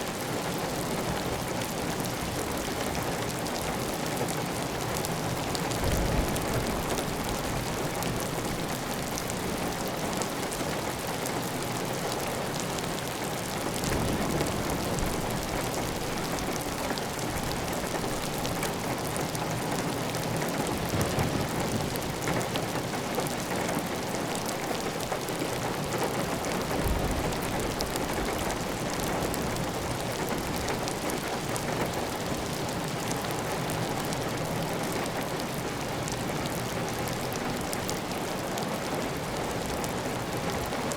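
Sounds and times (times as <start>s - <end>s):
heavy rain on tile roof: 0.0s - 40.9s.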